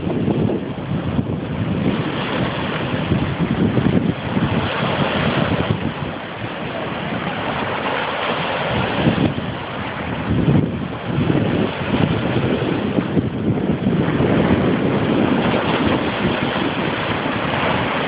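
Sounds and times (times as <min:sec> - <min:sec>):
campfire burning: 0:00.0 - 0:18.0
wind buffeting microphone: 0:00.0 - 0:18.0.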